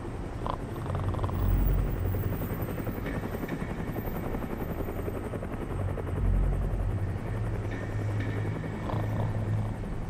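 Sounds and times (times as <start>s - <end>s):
helicopter rotor chopping: 0.0s - 10.0s.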